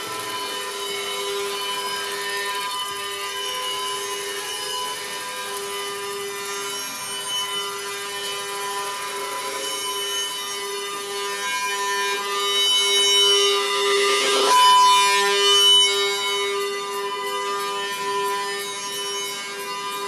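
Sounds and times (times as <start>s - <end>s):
rasping electronic drone: 0.0s - 20.0s.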